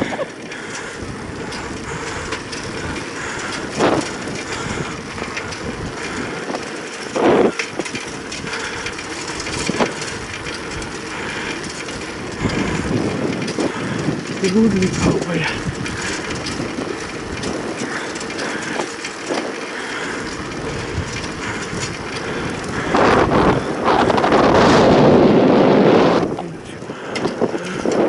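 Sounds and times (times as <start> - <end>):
moving vehicle rumbling: 0.0 - 28.0.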